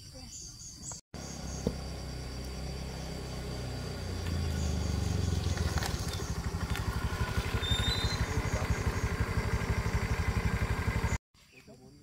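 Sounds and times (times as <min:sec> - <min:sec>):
crickets chirping: 0:00.0 - 0:12.0
small engine running: 0:01.2 - 0:11.2.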